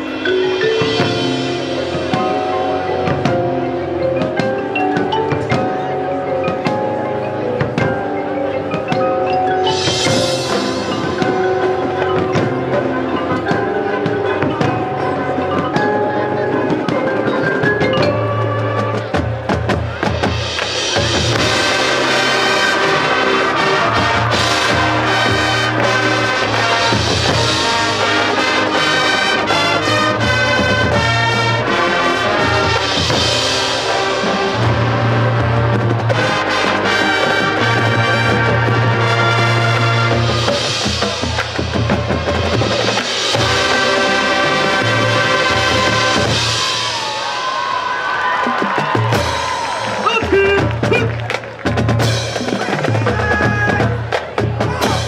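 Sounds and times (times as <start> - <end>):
mallet percussion: 0.0 - 55.0
marching band playing: 0.0 - 55.0.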